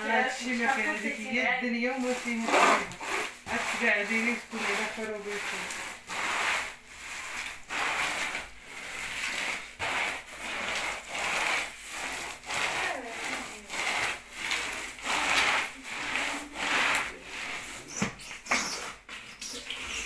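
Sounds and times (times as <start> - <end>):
carpet being scrubbed: 0.0 - 20.0.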